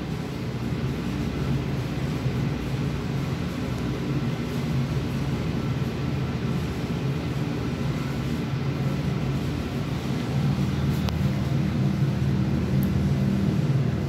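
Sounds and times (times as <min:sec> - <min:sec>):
low mechanical drone: 0:00.0 - 0:14.0.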